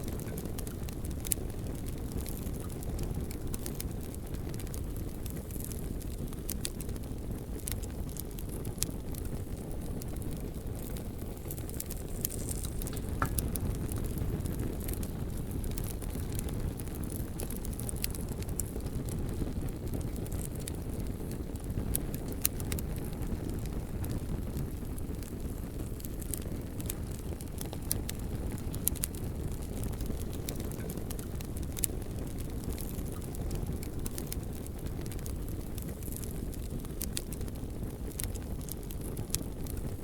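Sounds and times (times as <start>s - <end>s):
low rumble of flames: 0.0s - 40.0s
wood crackles and pops: 0.0s - 40.0s.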